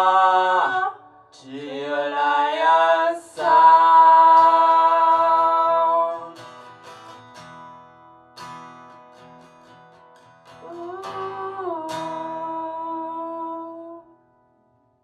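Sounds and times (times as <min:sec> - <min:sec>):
acoustic guitar strumming: 0:00.0 - 0:14.7.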